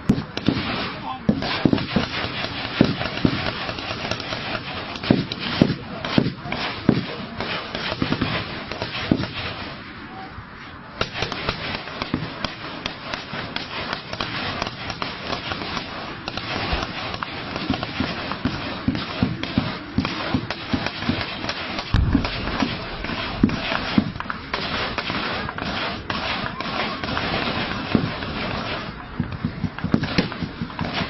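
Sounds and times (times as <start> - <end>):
heavy gunfire: 0.0 - 9.8, 11.0 - 31.0.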